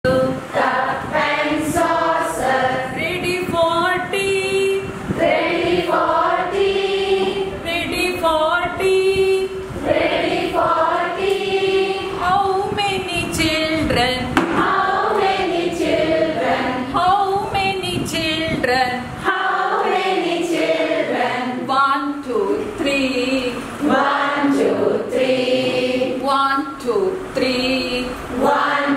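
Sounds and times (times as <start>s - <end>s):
women singing together: 0.0s - 28.9s.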